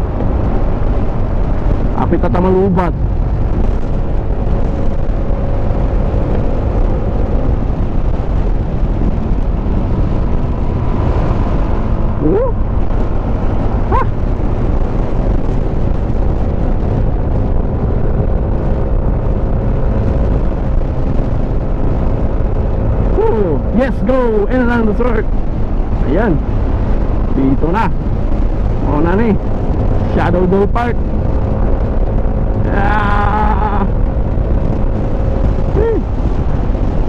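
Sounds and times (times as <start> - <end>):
motorcycle engine hum: 0.0 - 37.0
wind rushing on microphone: 0.0 - 37.0.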